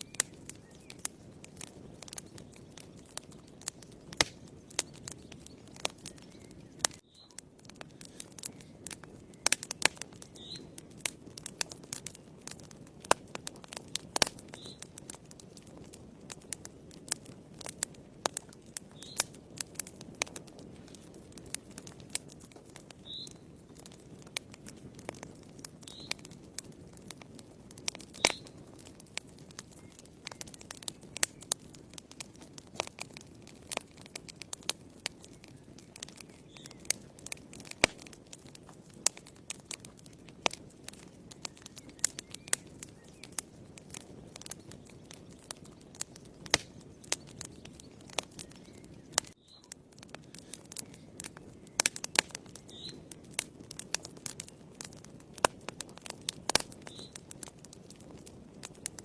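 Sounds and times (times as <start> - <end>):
low rush of flames: 0.0 - 59.0
wood fire crackling: 0.0 - 59.0.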